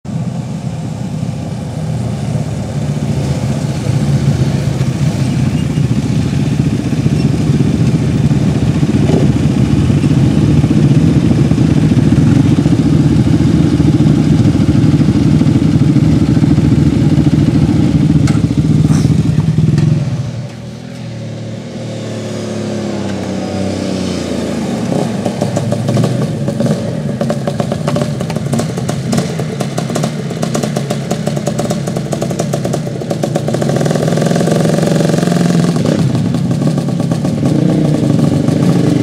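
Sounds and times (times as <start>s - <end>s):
quad engines idling: 0.1s - 21.9s, 22.9s - 39.0s.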